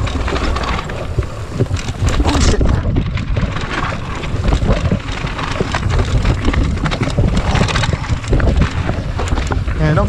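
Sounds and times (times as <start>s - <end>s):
bike clattering and rattling: 0.0s - 10.0s
tyres crunching over loose stones: 0.0s - 10.0s
wind buffeting microphone: 0.0s - 10.0s.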